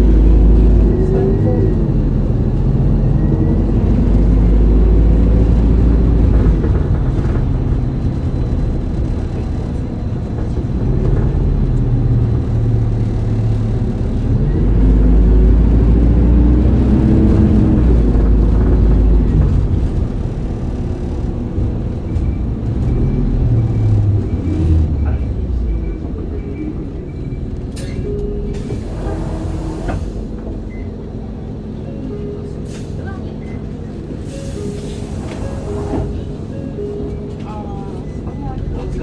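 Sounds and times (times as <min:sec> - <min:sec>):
bus diesel engine revving: 0:00.0 - 0:39.0.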